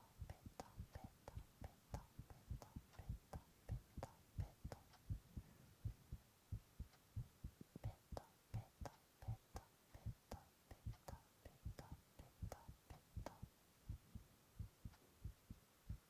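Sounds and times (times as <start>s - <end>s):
heartbeat thumps: 0.0s - 16.0s.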